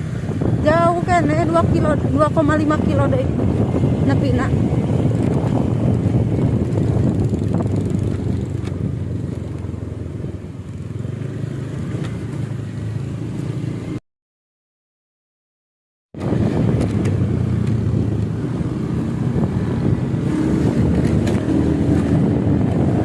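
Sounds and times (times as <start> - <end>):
motorcycle engine running: 0.0 - 13.9, 16.2 - 23.0
road and wind noise: 0.0 - 14.0, 16.1 - 23.0.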